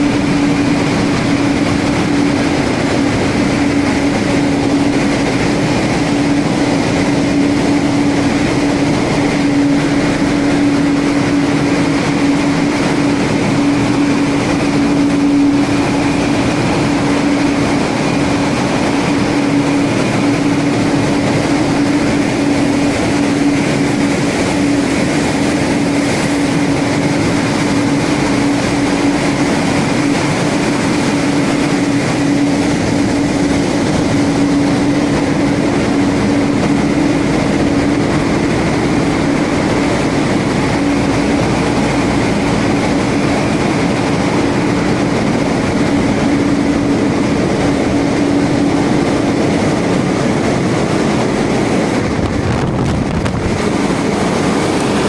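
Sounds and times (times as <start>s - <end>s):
constant low hum: 0.0s - 55.0s
engine room machinery din: 0.0s - 55.0s
faint steady whine: 0.0s - 55.0s.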